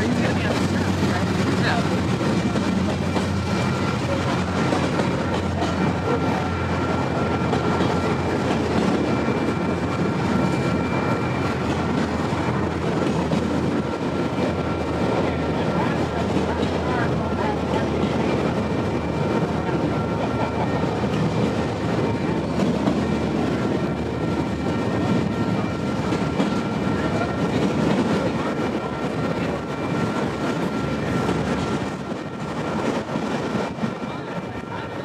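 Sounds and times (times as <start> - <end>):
steel wheels on rail: 0.0 - 35.0.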